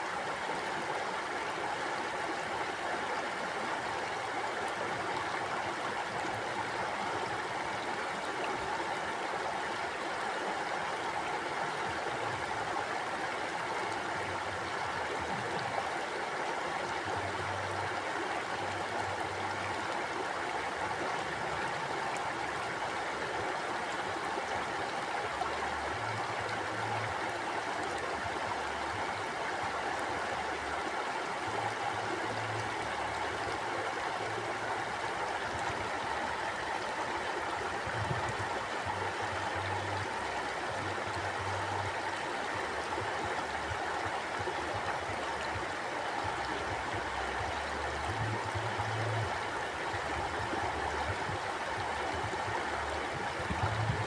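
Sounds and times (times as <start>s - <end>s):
river water rushing and babbling: 0.0s - 54.0s.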